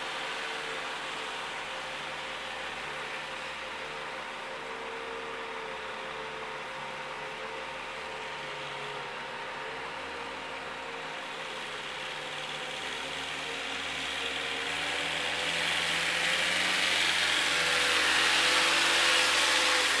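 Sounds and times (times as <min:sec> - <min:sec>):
forklift engine running: 0:00.1 - 0:20.0.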